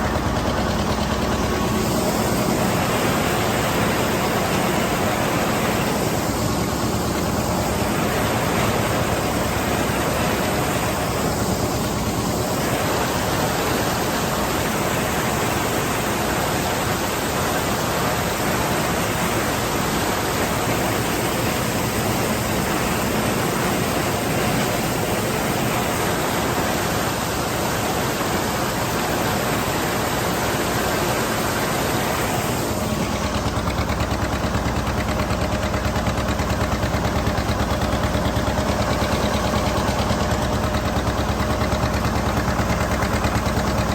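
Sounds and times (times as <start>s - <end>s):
diesel tractor engine putting: 0.0s - 43.9s
loud steady rushing noise: 0.0s - 43.9s.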